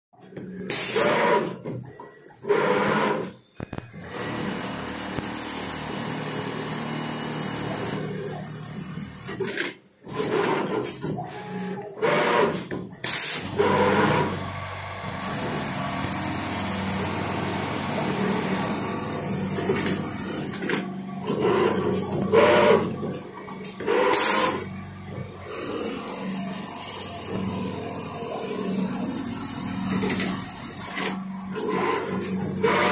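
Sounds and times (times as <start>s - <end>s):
sewing machine running: 0.6s - 32.9s.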